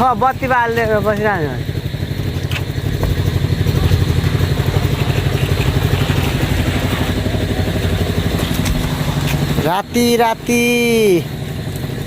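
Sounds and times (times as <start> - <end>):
engine running with fast throb: 0.0 - 12.0.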